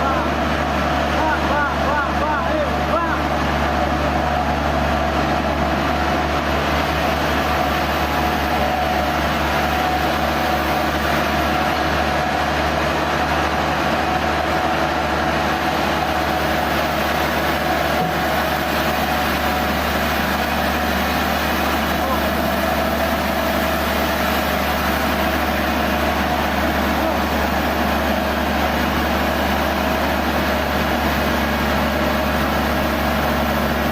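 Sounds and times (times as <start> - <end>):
sawmill machinery humming and whining: 0.0 - 33.9.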